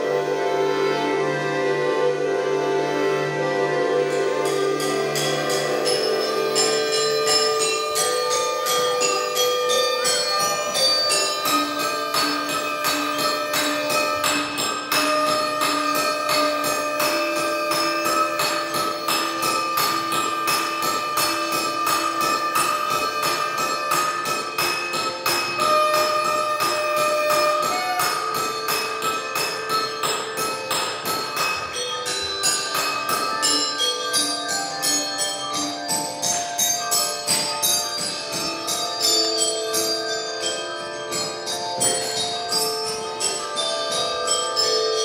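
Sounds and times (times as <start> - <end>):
quick percussive strikes: 4.1 - 45.0.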